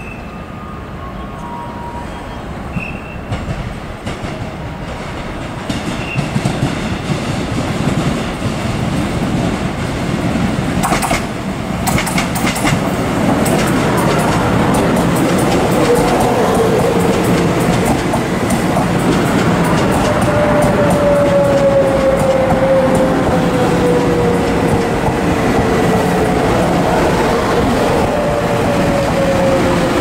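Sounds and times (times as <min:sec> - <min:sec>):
train rumbling: 0:00.0 - 0:30.0
train wheels clacking on track: 0:02.7 - 0:30.0.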